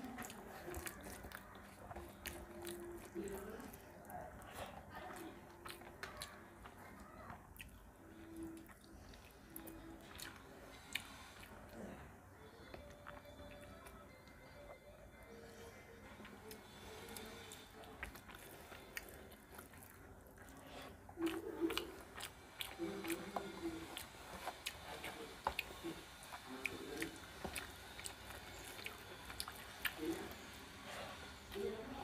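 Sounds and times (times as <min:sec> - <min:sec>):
wet chewing and lip-smacking: 0:00.0 - 0:14.8, 0:16.1 - 0:32.0.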